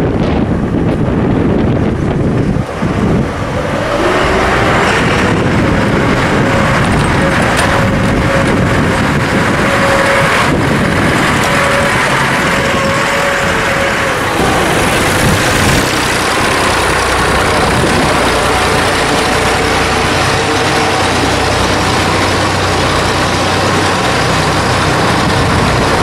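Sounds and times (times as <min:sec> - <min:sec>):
tractor diesel engine passing: 0:00.0 - 0:26.0.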